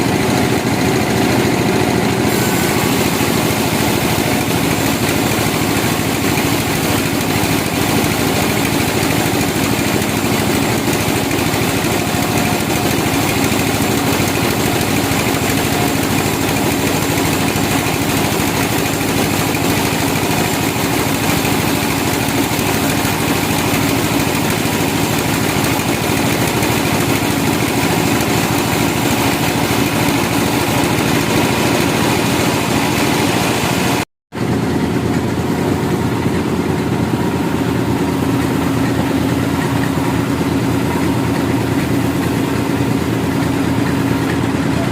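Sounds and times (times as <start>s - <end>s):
sawmill machinery engine: 0.0s - 44.9s.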